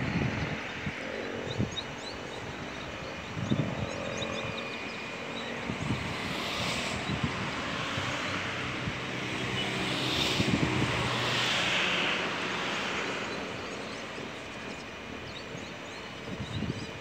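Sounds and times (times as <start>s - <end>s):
distant jet engines rushing: 0.0s - 17.0s.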